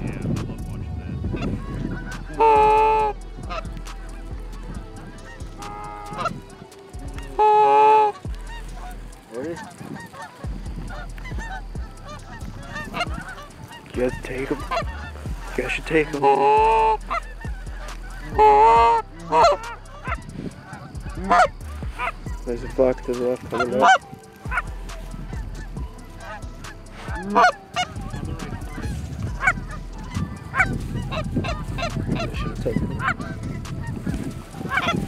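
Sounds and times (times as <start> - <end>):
geese honking: 0.0 - 35.0.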